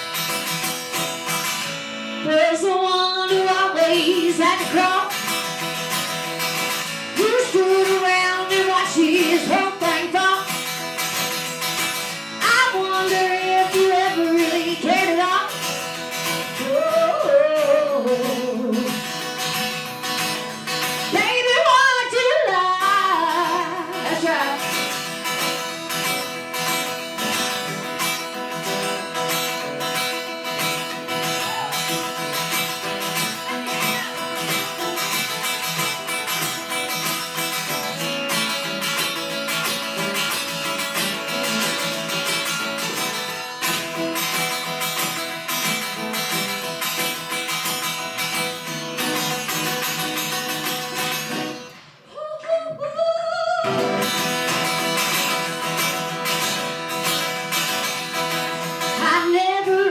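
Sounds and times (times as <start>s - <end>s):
acoustic guitar strumming: 0.0s - 52.2s, 53.6s - 59.9s.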